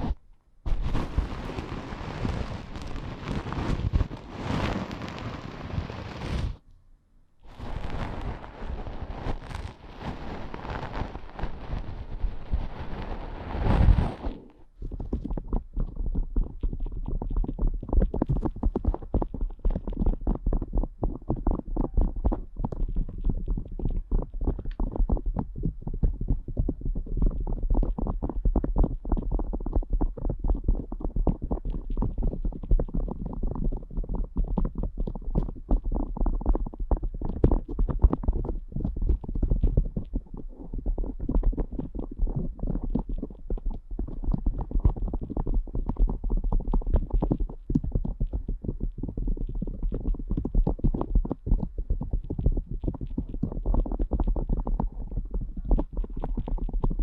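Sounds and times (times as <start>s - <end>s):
ear pick scratching in microphone: 0.0s - 6.6s, 7.4s - 57.0s.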